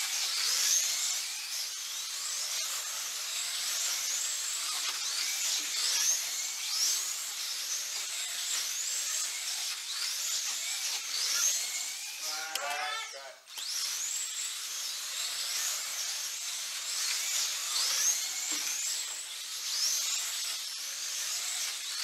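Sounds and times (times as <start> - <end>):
slot car motors whining: 0.0 - 22.0.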